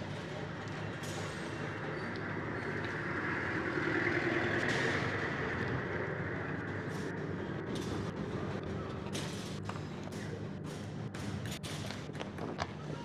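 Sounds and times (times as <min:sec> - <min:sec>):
outdoor street noise: 0:00.0 - 0:13.0.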